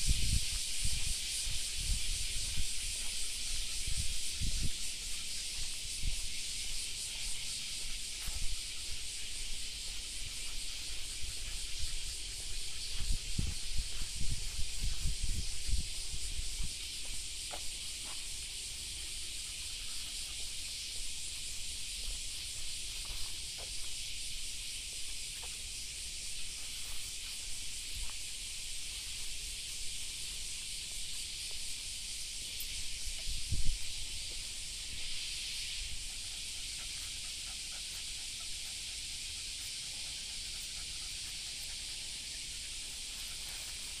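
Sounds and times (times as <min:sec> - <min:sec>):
high-pitched outdoor hiss: 0:00.0 - 0:44.0.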